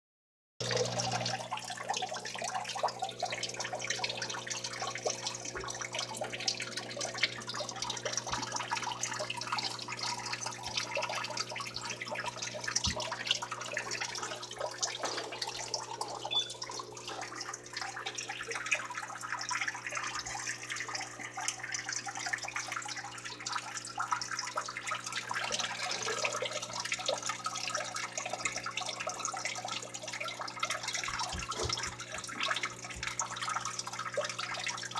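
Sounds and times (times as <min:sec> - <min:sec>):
low electrical hum: 0:00.6 - 0:34.9
water running and trickling: 0:00.6 - 0:34.9.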